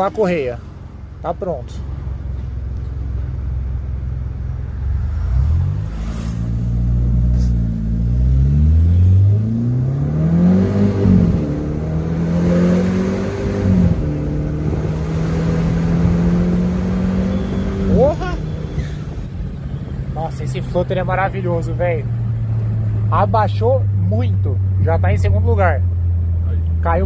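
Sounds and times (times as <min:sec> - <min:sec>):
car engine accelerating hard: 0:03.8 - 0:27.0.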